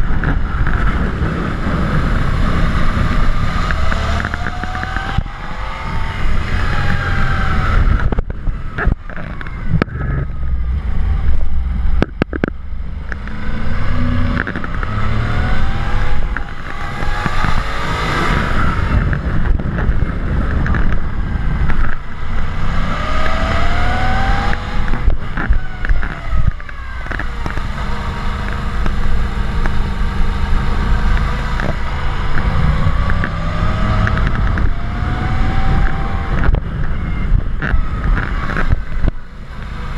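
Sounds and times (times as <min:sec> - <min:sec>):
motorcycle engine accelerating: 0:00.0 - 0:39.9
wind rumble on microphone: 0:00.0 - 0:39.9.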